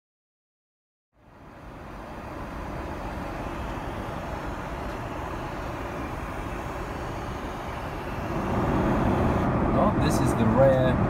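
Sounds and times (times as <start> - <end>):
airplane cabin engine hum: 1.2 - 11.0.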